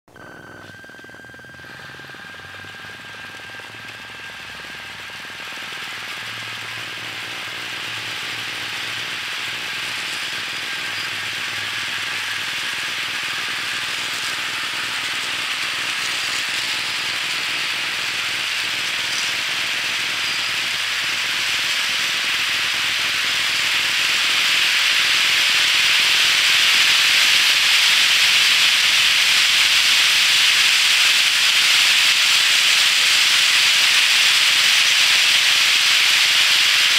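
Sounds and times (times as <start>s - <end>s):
model train wheels rattling: 1.7s - 36.9s.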